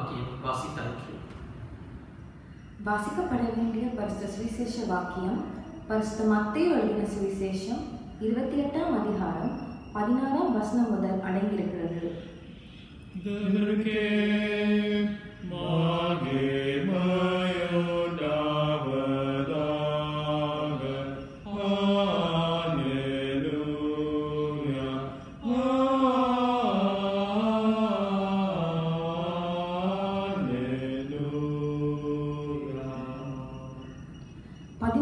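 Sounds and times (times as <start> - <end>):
voices chanting: 1.9 - 35.0.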